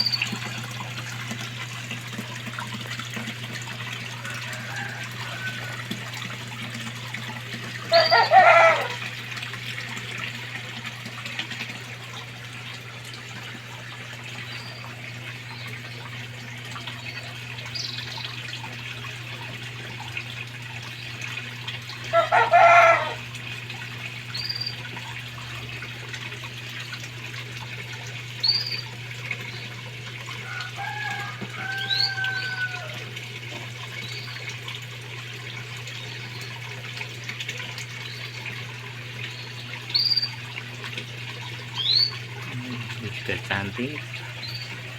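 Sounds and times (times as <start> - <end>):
pond pump humming: 0.0 - 44.9
water running in a pond: 0.0 - 44.9.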